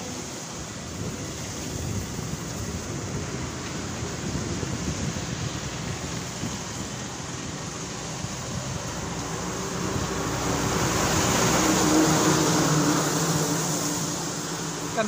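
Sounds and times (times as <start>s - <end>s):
highway traffic rushing: 0.0s - 15.0s
wind on microphone: 0.0s - 15.0s
heavy truck engine passing: 2.7s - 15.0s.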